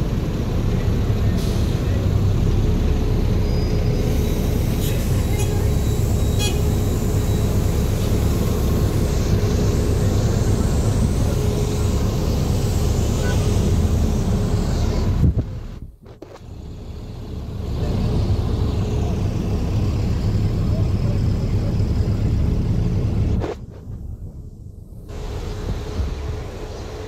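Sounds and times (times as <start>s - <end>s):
bus rumbling: 0.0s - 27.0s
city traffic: 0.0s - 27.0s.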